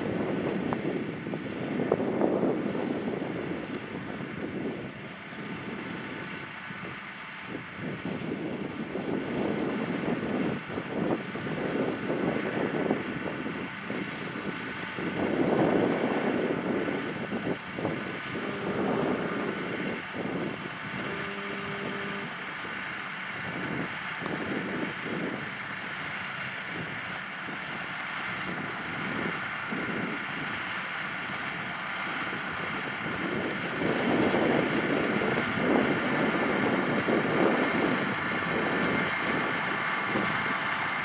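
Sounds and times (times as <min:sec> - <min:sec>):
tractor engine running: 0:00.0 - 0:41.0
wind buffeting microphone: 0:00.0 - 0:41.0.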